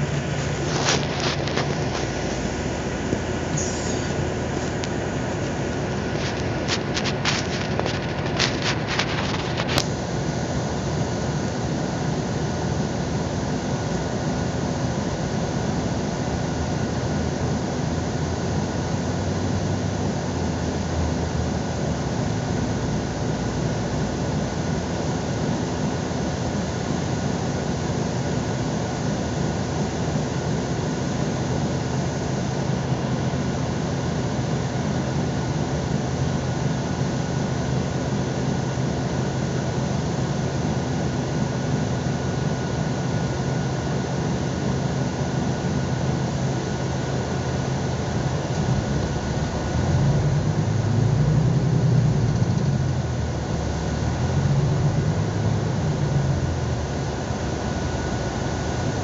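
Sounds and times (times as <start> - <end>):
bus engine idling: 0.0 - 42.0, 43.9 - 59.0
faint steady whine: 0.0 - 59.0.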